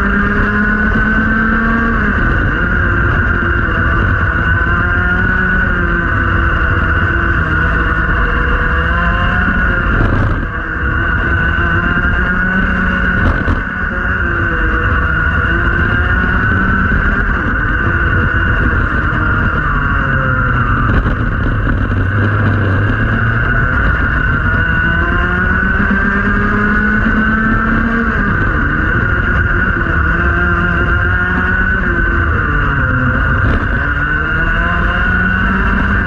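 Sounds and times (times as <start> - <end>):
kart engine revving: 0.0 - 36.0.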